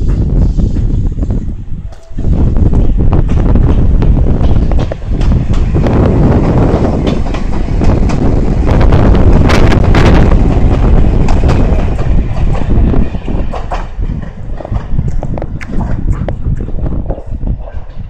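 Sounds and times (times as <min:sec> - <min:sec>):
electric train passing: 0:00.0 - 0:18.0
wheels clattering over rail joints: 0:03.2 - 0:18.0.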